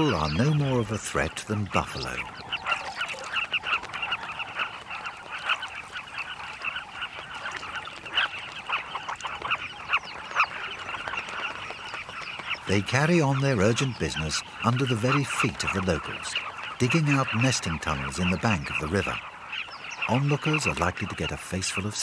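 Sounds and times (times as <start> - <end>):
birds chattering: 0.0 - 22.0.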